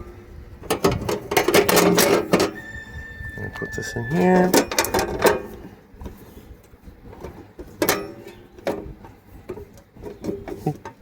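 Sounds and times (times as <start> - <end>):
handling noise: 0.0 - 11.0.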